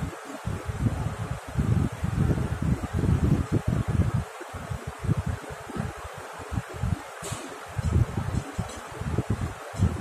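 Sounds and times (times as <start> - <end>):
steady hiss: 0.0 - 10.0
wind buffeting microphone: 0.0 - 10.0.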